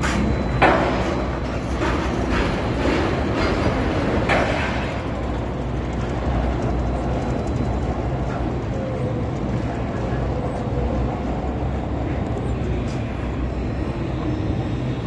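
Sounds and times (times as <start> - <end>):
machinery low rumble: 0.0 - 15.0.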